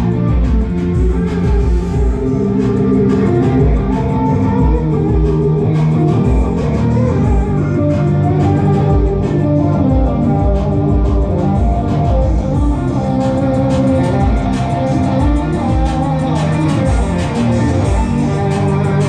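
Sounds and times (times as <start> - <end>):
deep pulses: 0.0 - 19.0
loud electric guitar riffs: 0.0 - 19.0.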